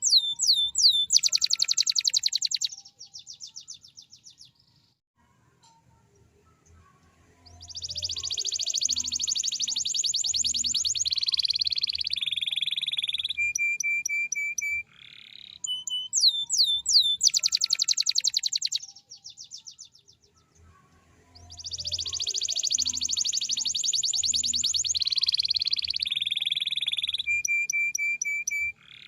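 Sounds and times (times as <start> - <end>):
canary singing trills: 0.0 - 4.8, 5.8 - 29.0.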